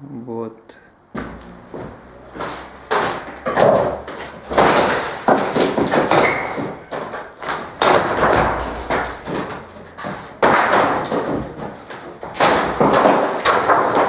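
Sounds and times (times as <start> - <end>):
heavy thuds and knocks: 1.1 - 14.0.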